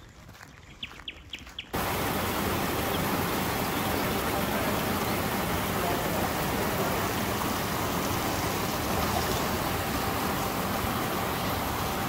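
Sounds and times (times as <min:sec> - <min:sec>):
waterfall splashing into pool: 0:01.8 - 0:12.0.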